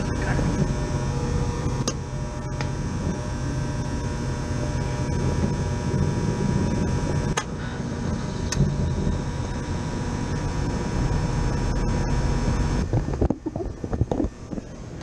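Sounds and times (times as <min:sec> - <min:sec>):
air conditioner fan whirring: 0:00.0 - 0:15.0.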